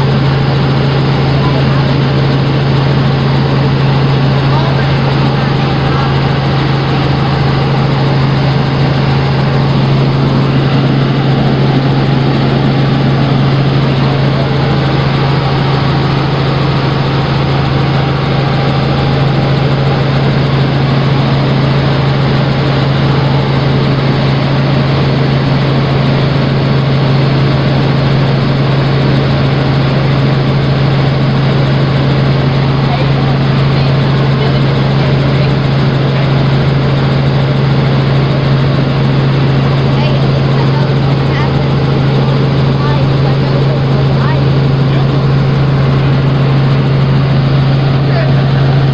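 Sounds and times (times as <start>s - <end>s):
helicopter engine and rotor hum: 0.0s - 48.9s.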